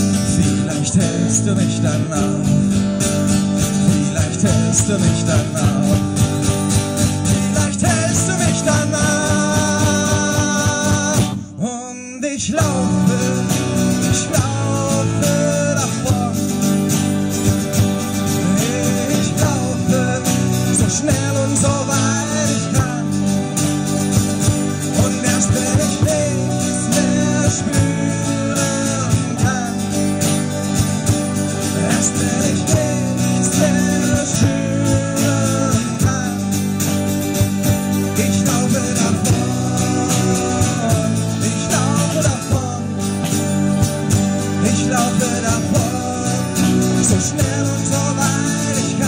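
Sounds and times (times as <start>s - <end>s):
live rock band playing: 0.0s - 11.7s, 12.4s - 49.0s.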